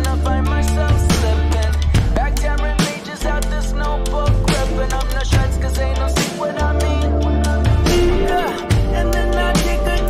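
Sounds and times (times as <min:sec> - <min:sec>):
bass-heavy background music: 0:00.0 - 0:10.0.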